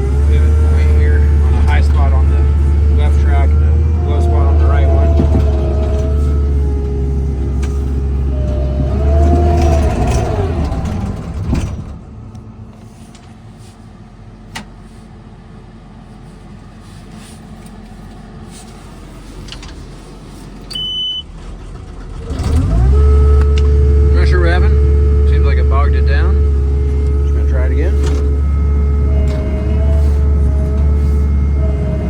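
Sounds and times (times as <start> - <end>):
hydraulic whine: 0.0 - 13.7, 17.0 - 32.0
diesel engine running loud: 0.0 - 32.0.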